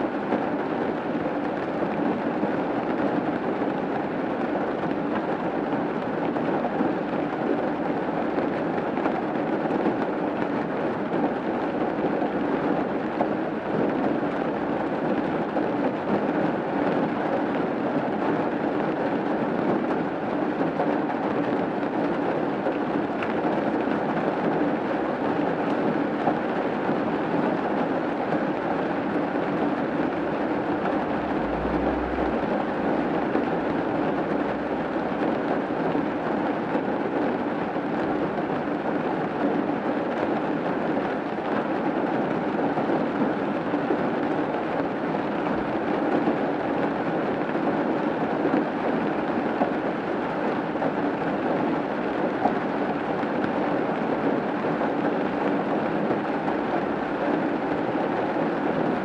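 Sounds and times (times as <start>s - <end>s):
rain on a roof: 0.0s - 59.0s.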